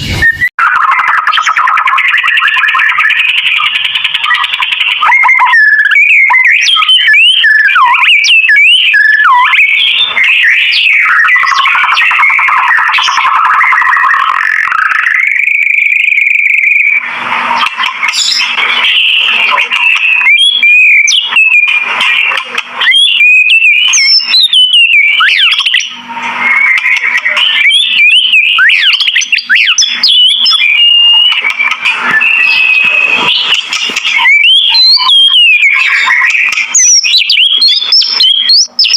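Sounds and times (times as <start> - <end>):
songbird whistling and chattering: 0.0 - 38.9.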